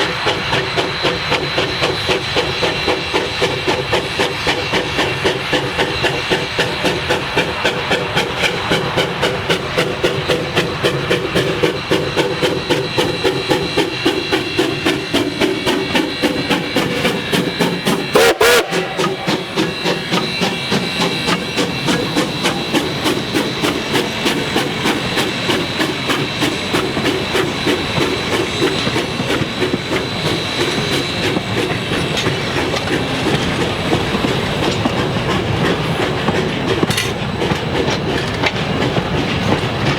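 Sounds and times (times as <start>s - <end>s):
steam train running by: 0.0s - 39.9s
wheels on rail joints: 0.0s - 39.9s.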